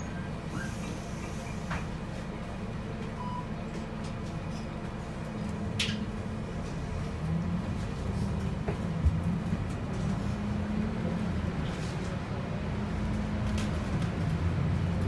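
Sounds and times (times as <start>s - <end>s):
bus diesel engine: 0.0s - 15.0s.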